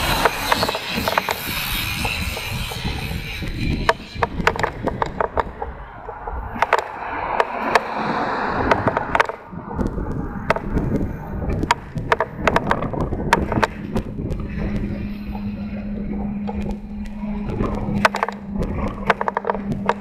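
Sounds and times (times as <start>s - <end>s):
bicycle clicks and rattles: 0.0s - 8.0s, 8.6s - 20.0s
wind buffeting microphone: 0.0s - 20.0s.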